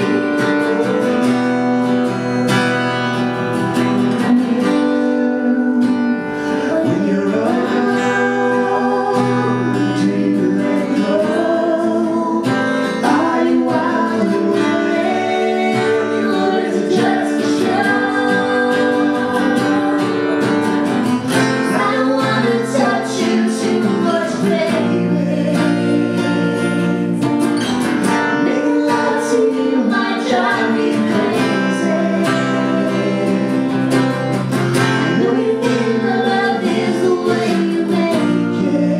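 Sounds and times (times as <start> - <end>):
man and woman singing: 0.0 - 3.2, 3.8 - 38.9
acoustic guitar strumming: 0.0 - 38.9.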